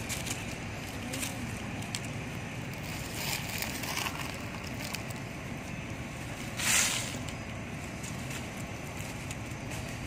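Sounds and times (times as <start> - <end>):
dry leaves rustling: 0.0 - 10.0
low background rumble: 0.0 - 10.0.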